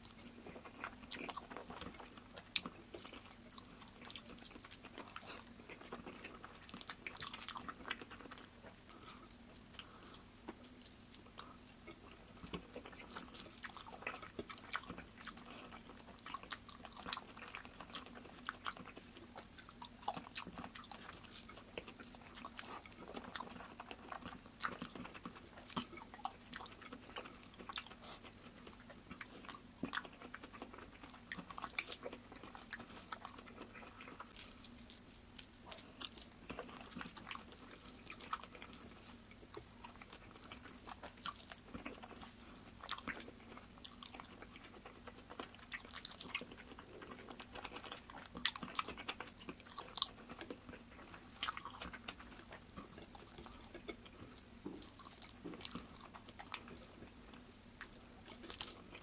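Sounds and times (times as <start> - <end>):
faint chewing: 0.0 - 59.0
faint low hum: 0.0 - 59.0.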